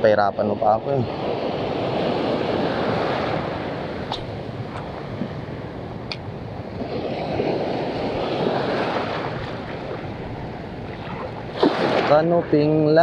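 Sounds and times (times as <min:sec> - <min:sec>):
surf washing along shore: 0:00.0 - 0:13.0
wind buffeting microphone: 0:00.0 - 0:13.0.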